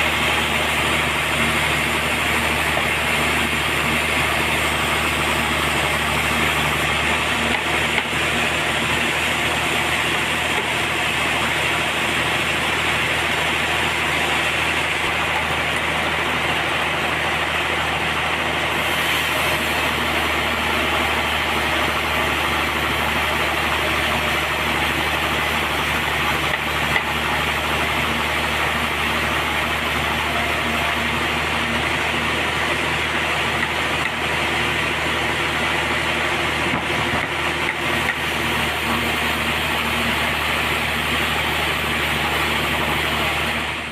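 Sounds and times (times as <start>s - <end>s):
sawmill machinery humming: 0.0s - 43.9s.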